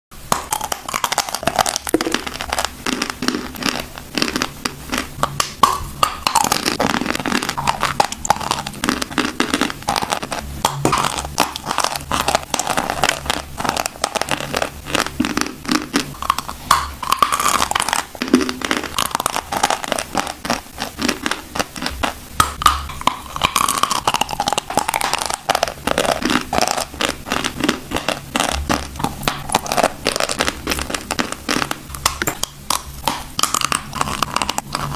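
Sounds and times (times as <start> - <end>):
chewing crunchy chalk: 0.3 - 34.9.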